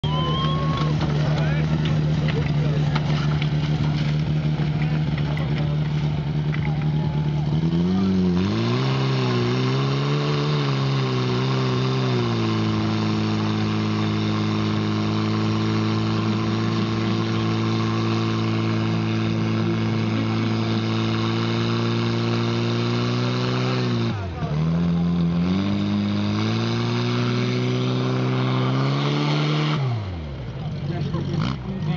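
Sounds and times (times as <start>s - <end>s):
fire pump engine running: 0.0s - 31.9s.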